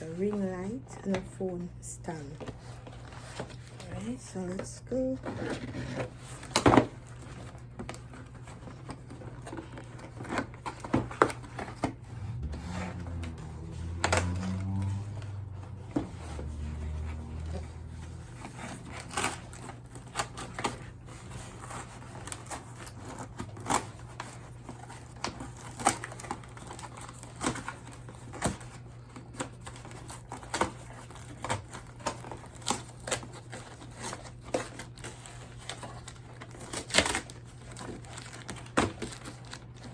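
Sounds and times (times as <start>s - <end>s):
box and plastic crinkling: 2.2s - 39.9s.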